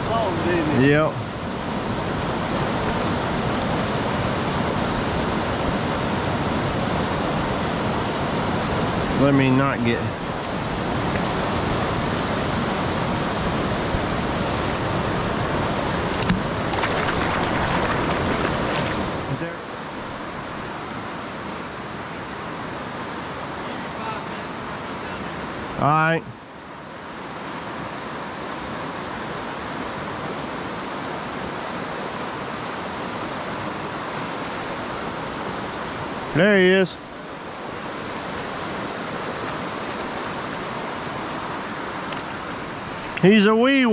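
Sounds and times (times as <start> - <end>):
creek water rushing over rocks: 0.0 - 43.9.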